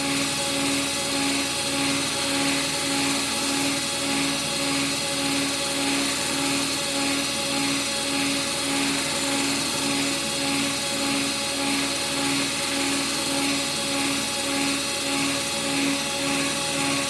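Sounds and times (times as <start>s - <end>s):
pulsing machine drone: 0.0s - 17.0s.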